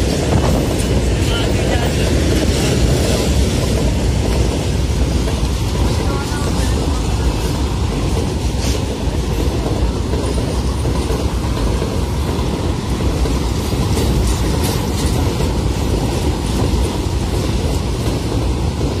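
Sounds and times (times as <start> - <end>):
freight train rumbling past: 0.0 - 19.0
train wheels clattering on rails: 0.0 - 19.0.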